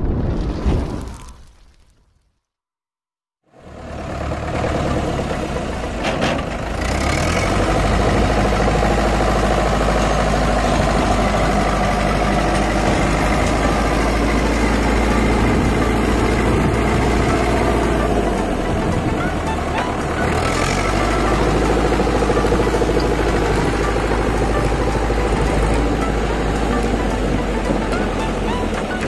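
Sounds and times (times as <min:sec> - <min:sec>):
tractor diesel engine under load: 0:03.5 - 0:29.0.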